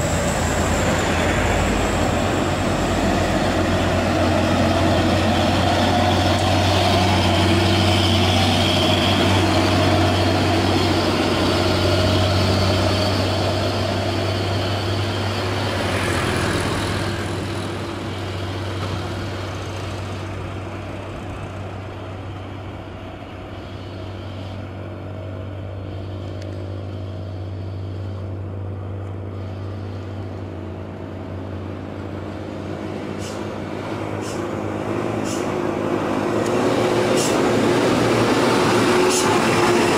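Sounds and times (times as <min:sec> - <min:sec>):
approaching truck engine: 0:00.0 - 0:39.9
diesel truck engine under load: 0:00.0 - 0:39.9
traffic noise: 0:00.0 - 0:39.9.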